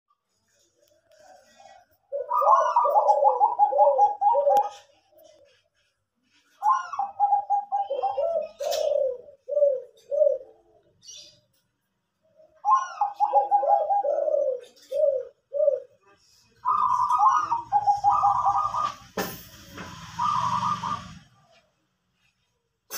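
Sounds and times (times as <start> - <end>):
doves cooing: 0.4 - 11.4, 12.2 - 19.2, 19.8 - 21.6.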